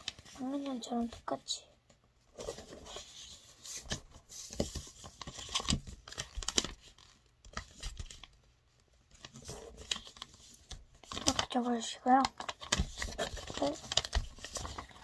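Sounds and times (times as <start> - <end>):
paper rustling and crinkling: 0.0 - 1.5, 2.2 - 15.0.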